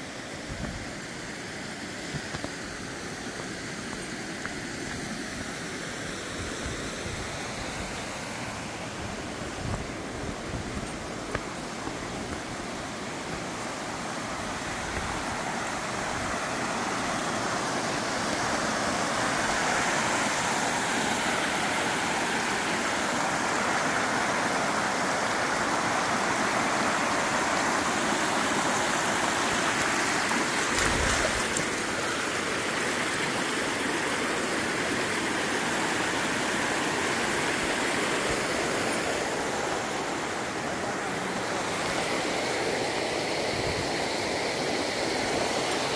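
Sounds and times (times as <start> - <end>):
water rushing over rocks: 0.0 - 45.9.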